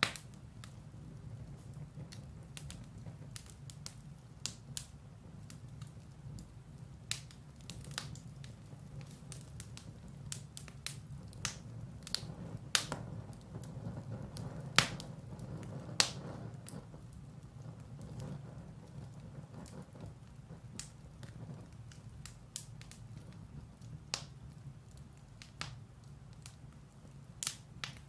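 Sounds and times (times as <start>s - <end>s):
firewood burning and crackling: 0.0s - 28.0s.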